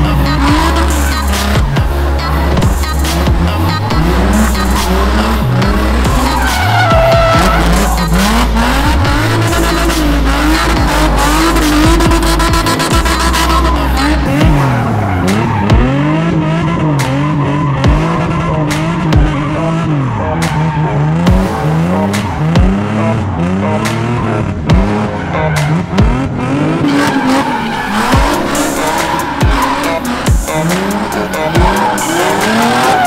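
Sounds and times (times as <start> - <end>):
car engine revving: 0.0 - 33.0
music: 0.0 - 33.0
tyres screeching: 0.0 - 33.0.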